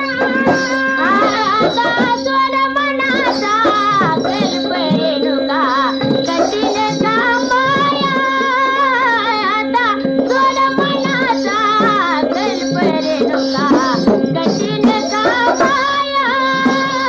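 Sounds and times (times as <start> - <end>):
held drone: 0.0 - 17.0
person singing: 0.0 - 17.0
rhythmic percussion strokes: 0.0 - 17.0.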